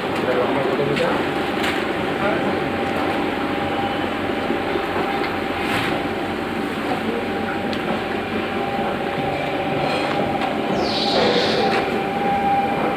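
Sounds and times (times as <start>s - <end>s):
constant mechanical whine: 0.0s - 12.9s
screw conveyor rumble and rattle: 0.0s - 12.9s.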